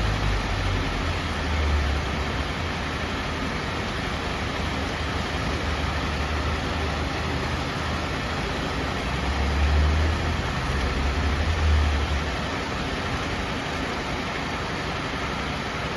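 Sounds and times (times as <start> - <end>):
rain hissing: 0.0 - 15.9.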